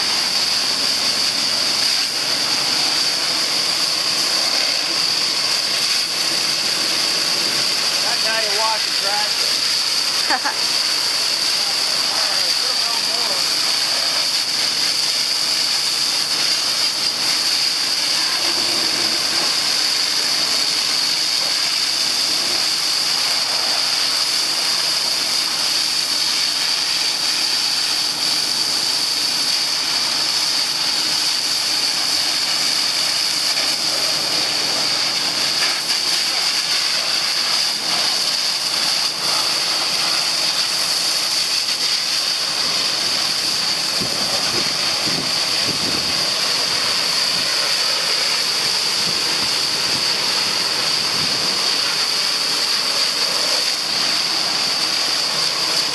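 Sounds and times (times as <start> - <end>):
water jet spraying on metal: 0.0 - 55.9.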